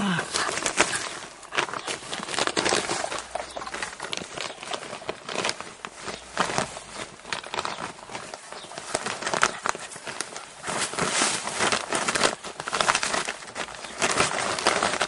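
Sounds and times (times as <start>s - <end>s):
plastic sheeting crinkling: 0.0s - 15.0s
straw rustling under paws: 0.0s - 15.0s.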